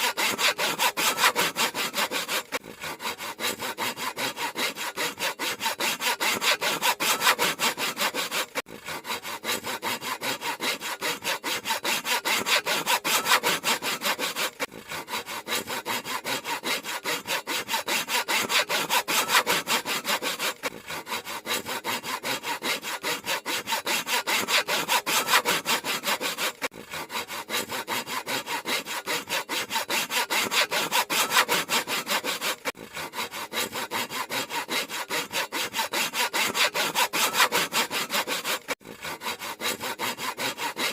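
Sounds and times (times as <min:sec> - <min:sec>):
handsaw cutting wood: 0:00.0 - 0:40.9.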